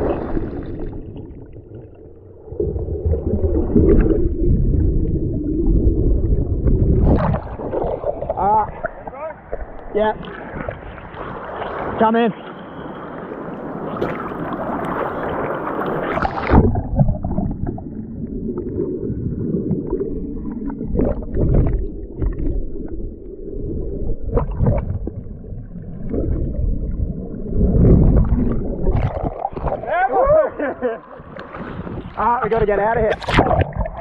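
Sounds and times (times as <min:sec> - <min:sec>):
bubbles: 0:00.0 - 0:11.8, 0:13.9 - 0:32.1, 0:33.1 - 0:34.0
underwater rumble of churning water: 0:00.0 - 0:34.0.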